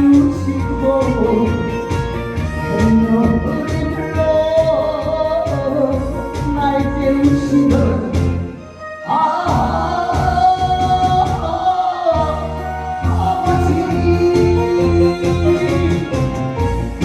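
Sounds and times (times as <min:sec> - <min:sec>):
keyboard accompaniment: 0:00.0 - 0:17.0.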